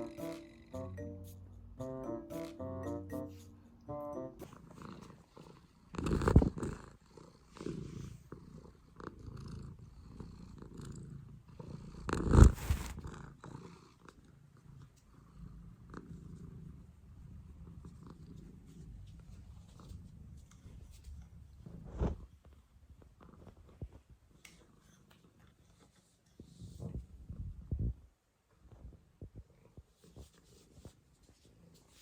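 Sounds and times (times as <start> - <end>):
cat purring: 4.5 - 32.0.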